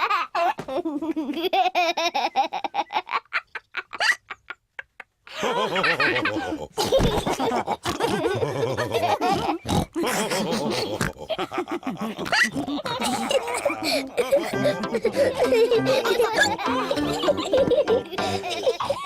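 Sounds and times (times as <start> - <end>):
cartoon characters laughing: 0.0 - 19.0.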